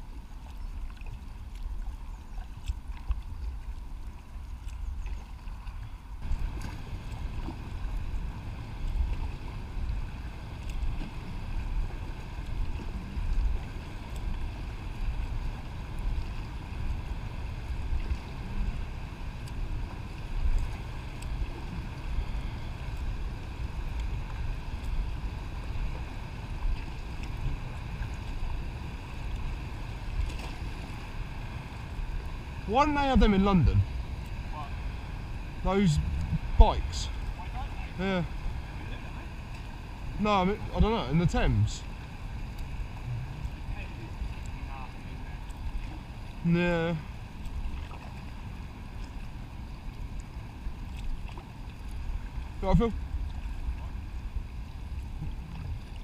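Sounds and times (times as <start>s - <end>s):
paddle strokes in water: 0.0s - 56.0s
water splashing around hull: 0.0s - 56.0s
wind rumble on microphone: 0.0s - 56.0s.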